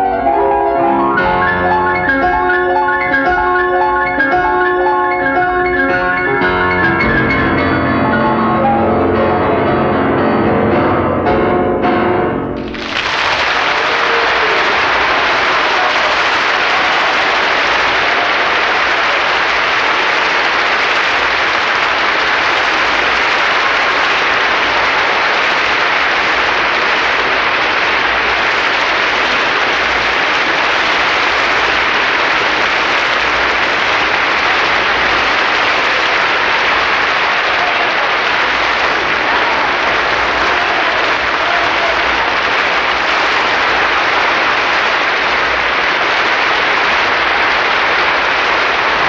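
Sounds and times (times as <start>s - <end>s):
large audience applauding: 0.0s - 9.2s, 12.5s - 49.0s.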